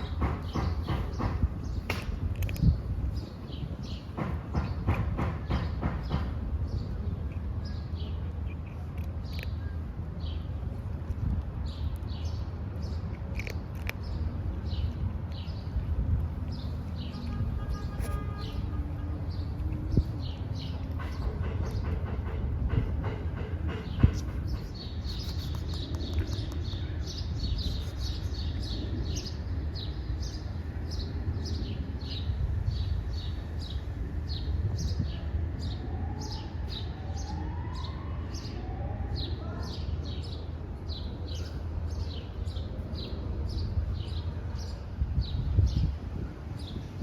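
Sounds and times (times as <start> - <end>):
small birds chirping: 0.0 - 38.6.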